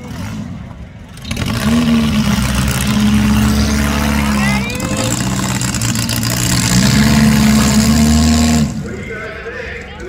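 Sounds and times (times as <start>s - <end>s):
car engines revving loudly: 0.0s - 9.2s.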